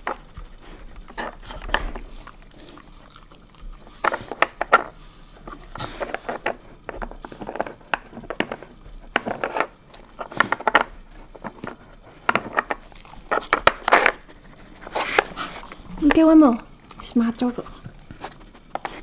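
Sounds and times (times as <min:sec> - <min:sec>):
dog sniffing: 0:00.0 - 0:07.9, 0:10.2 - 0:16.5, 0:17.5 - 0:19.0.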